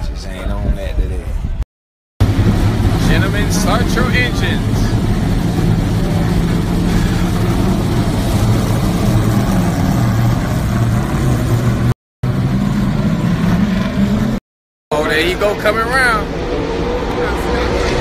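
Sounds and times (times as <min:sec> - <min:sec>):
car engines rumbling at low revs: 0:02.2 - 0:14.4, 0:15.0 - 0:18.0.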